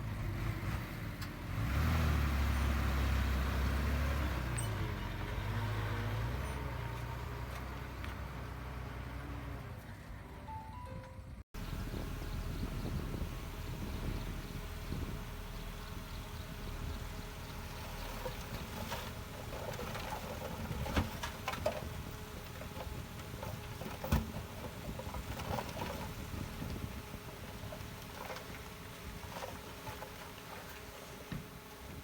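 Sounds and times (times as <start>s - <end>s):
heavy machinery diesel engine: 0.0s - 10.5s, 11.6s - 32.0s.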